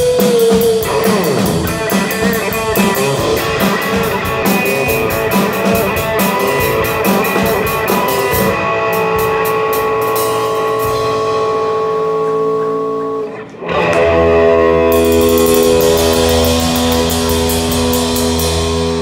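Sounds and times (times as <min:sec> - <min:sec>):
steady drum beat: 0:00.0 - 0:11.8, 0:14.9 - 0:19.0
electric guitar: 0:00.0 - 0:19.0.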